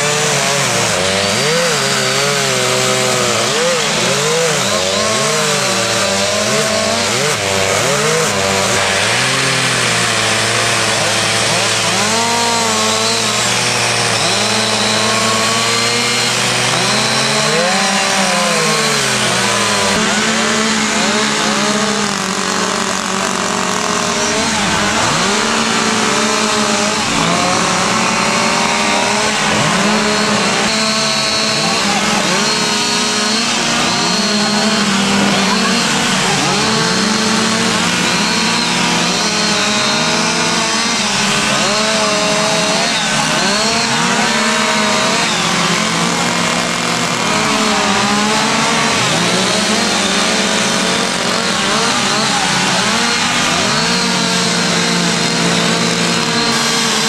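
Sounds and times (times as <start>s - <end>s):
chainsaws revving: 0.0s - 57.0s.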